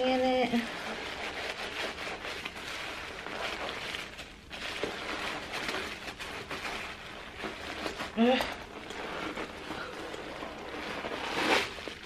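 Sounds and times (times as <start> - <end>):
packaging crinkling and rustling: 0.5 - 12.0.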